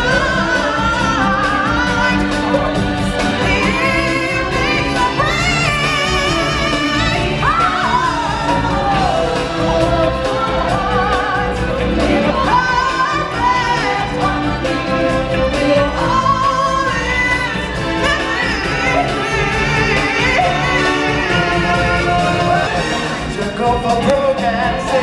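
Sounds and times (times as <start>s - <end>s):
singers holding long notes: 0.0s - 25.0s.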